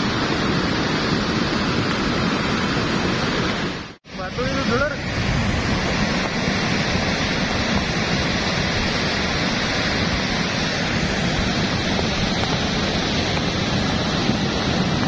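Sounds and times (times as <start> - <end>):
mudflow rushing with churning water: 0.0 - 15.0.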